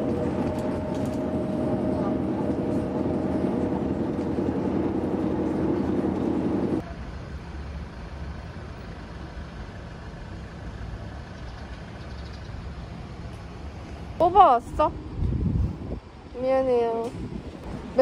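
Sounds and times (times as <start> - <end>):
bus engine and road hum: 0.0 - 18.0
low street traffic rumble: 0.0 - 18.0.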